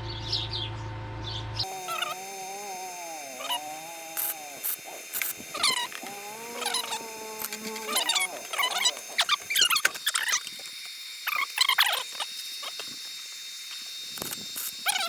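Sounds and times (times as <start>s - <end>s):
animal calls with wavering tones: 1.6s - 15.0s.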